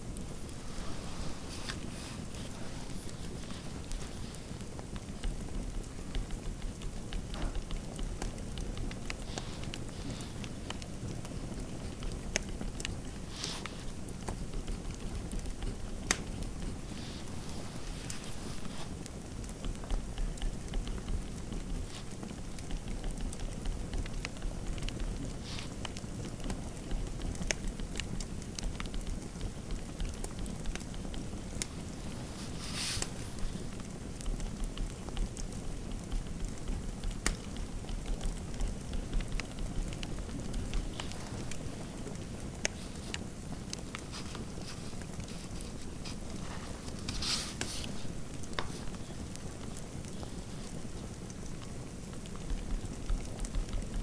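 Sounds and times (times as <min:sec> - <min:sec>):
soft hiss: 0:00.0 - 0:53.0
fire popping and snapping: 0:00.0 - 0:54.0
low rumble of fire: 0:00.0 - 0:54.0.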